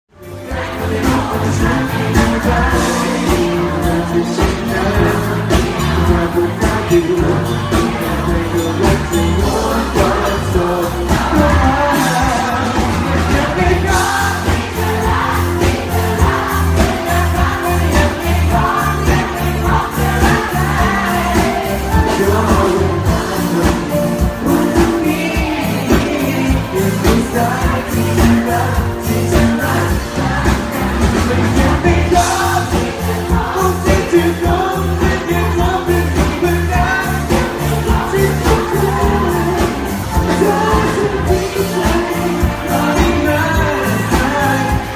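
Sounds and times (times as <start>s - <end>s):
bass line: 0.1s - 44.9s
live pop band playing: 0.1s - 44.9s
person singing: 0.2s - 44.9s
drum hits: 0.5s - 44.9s.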